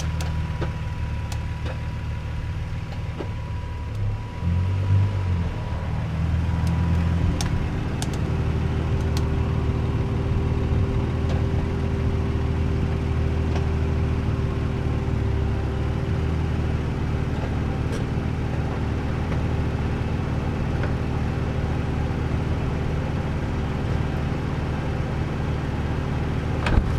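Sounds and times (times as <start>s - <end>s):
car engine and road noise: 0.0s - 26.9s.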